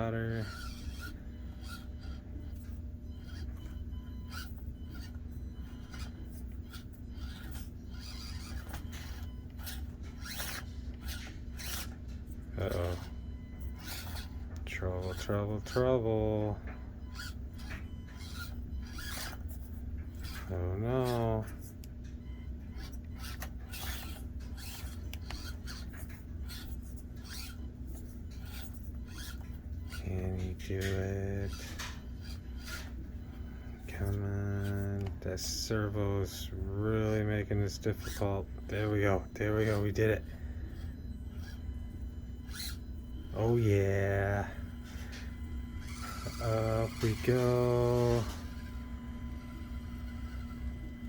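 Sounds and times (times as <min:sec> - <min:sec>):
steady low hum: 0:00.0 - 0:51.0
toy crawler scraping and whirring: 0:00.0 - 0:51.0.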